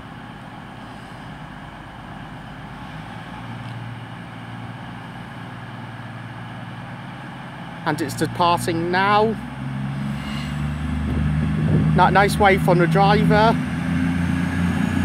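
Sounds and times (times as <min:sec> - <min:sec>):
train diesel engines running: 0:00.0 - 0:15.0.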